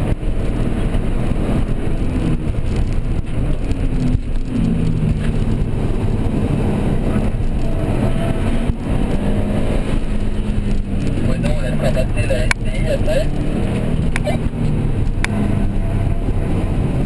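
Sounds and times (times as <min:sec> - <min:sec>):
car engine from inside cabin: 0:00.0 - 0:17.0
road noise: 0:00.0 - 0:17.0.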